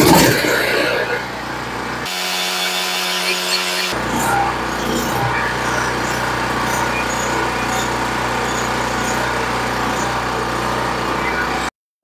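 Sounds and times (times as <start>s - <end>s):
generator engine running: 0.0s - 11.7s.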